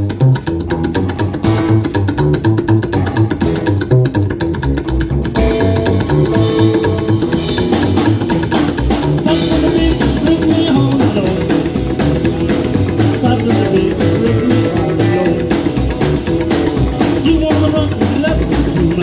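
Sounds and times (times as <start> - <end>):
band playing instrumental: 0.0 - 19.0.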